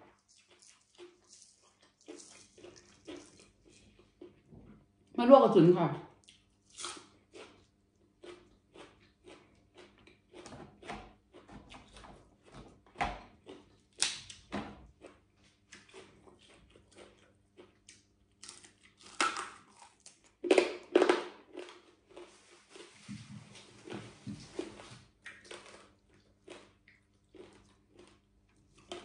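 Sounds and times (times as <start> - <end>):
crunchy chewing: 0.0 - 4.5, 6.2 - 23.0, 23.6 - 29.0.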